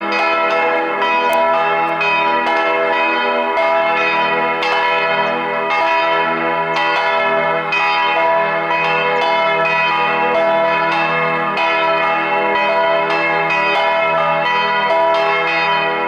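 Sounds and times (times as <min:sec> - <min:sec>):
church bells pealing: 0:00.0 - 0:16.0.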